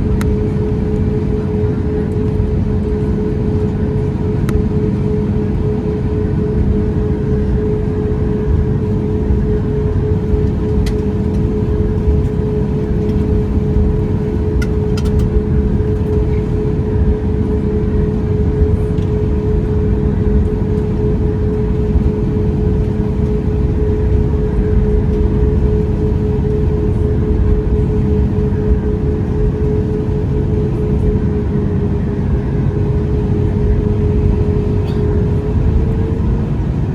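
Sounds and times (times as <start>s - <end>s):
airplane cabin engine rumble: 0.0s - 36.9s
constant hum: 0.0s - 36.9s.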